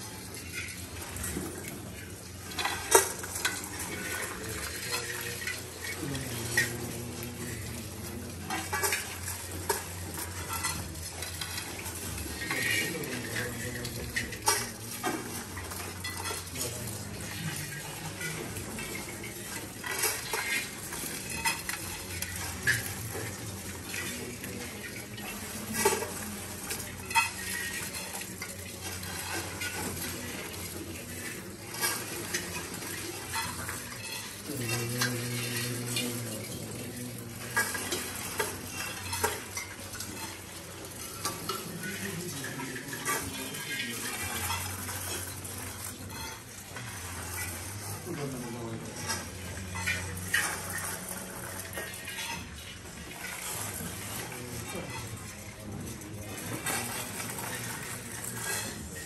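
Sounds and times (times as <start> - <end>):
metal plates clinking: 0.0 - 59.0.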